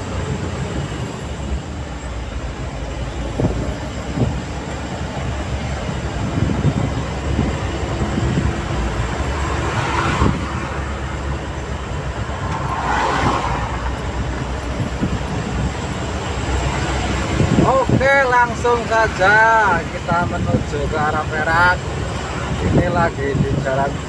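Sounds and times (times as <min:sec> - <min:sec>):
rushing noise: 0:00.0 - 0:24.0
truck engine droning: 0:00.0 - 0:24.0
tyre and road noise: 0:00.0 - 0:24.0.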